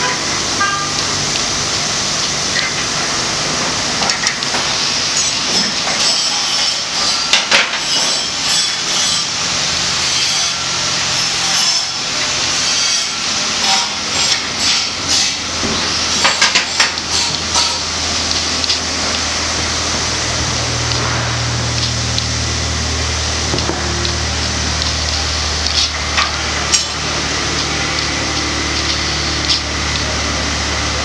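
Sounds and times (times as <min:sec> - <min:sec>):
workshop noise: 0:00.0 - 0:31.0.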